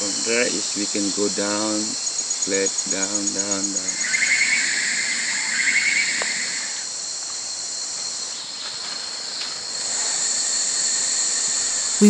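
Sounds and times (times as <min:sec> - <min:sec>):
high-pitched insect hiss: 0:00.0 - 0:12.0
pulsing insect trill: 0:00.0 - 0:12.0.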